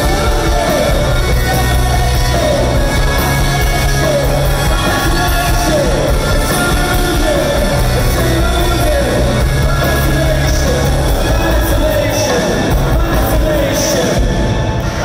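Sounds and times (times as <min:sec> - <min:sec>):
live rock band playing: 0:00.0 - 0:15.0
singer's voice: 0:00.0 - 0:15.0.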